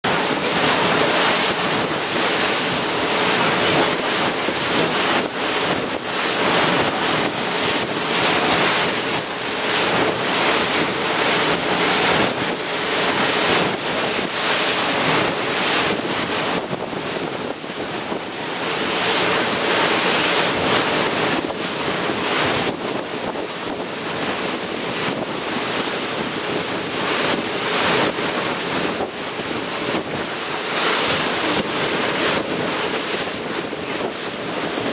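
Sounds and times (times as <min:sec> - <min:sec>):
water rushing and spraying: 0:00.0 - 0:34.9
wind buffeting microphone: 0:00.1 - 0:34.9.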